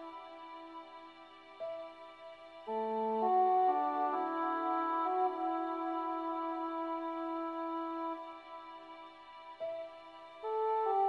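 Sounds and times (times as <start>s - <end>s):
slow quiet film music: 0.0s - 11.0s.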